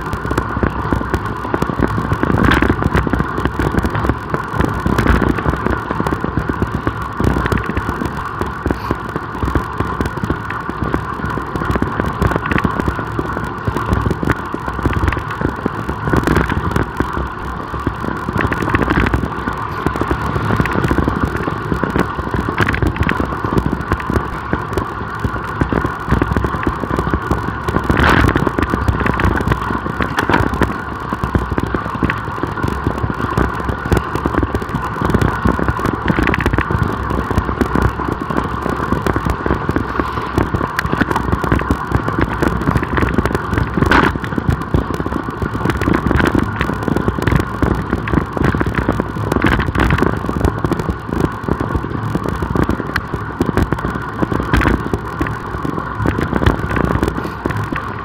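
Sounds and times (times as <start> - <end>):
tyres humming on road: 0.0 - 58.0
wind buffeting microphone: 0.0 - 58.0.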